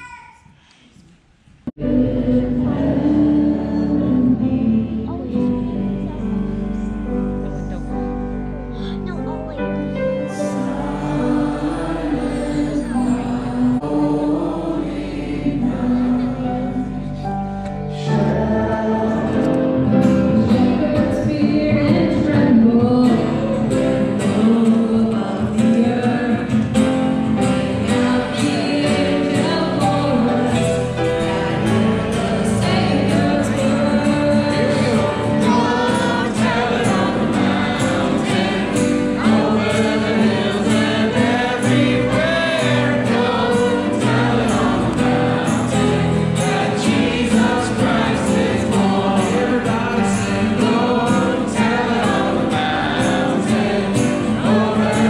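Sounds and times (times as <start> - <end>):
choir singing gospel music: 1.7 - 7.7, 9.9 - 55.0.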